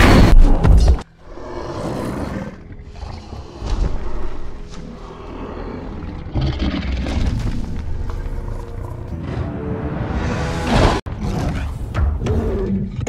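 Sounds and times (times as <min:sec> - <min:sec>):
rumbling movie soundtrack: 0:00.0 - 0:13.0.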